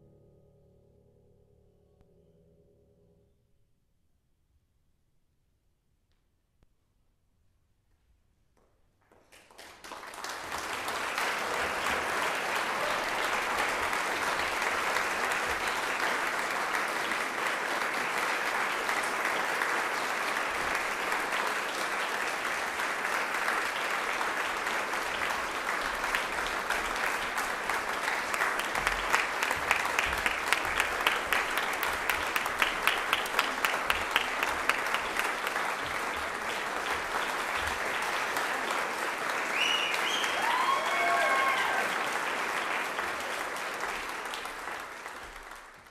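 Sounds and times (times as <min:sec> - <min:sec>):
loud rhythmic claps: 0:08.5 - 0:45.9
audience applause: 0:09.0 - 0:45.9.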